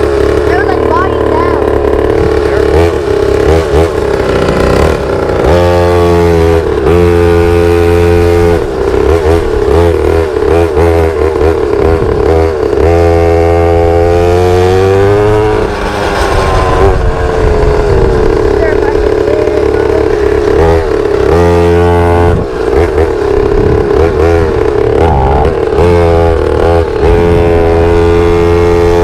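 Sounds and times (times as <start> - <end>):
small motorbike engine revving: 0.0 - 29.0.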